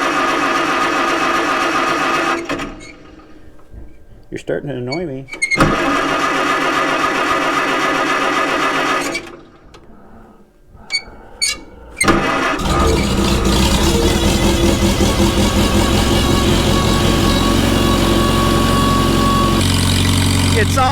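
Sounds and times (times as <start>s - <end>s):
tractor engine cranking and starting: 0.0s - 3.7s, 4.9s - 9.9s, 10.9s - 20.9s.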